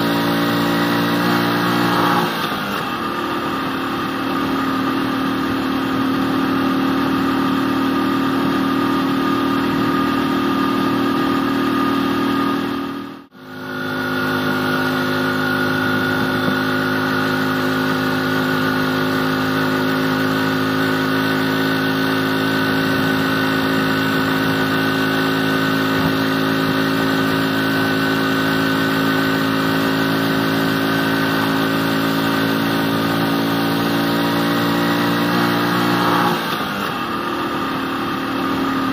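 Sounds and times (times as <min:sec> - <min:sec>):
small motorcycle engine droning: 0:00.0 - 0:38.9.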